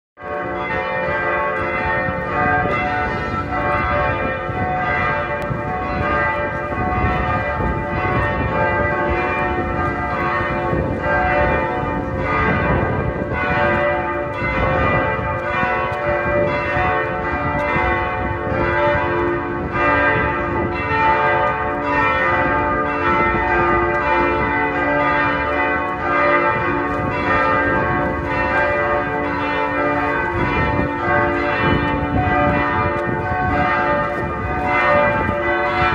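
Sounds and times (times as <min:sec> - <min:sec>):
church bells pealing: 0:00.2 - 0:35.9.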